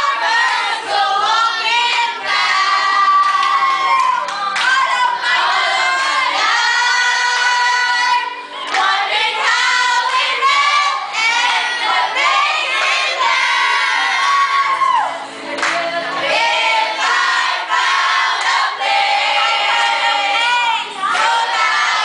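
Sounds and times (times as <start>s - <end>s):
girls and woman singing: 0.0s - 22.0s.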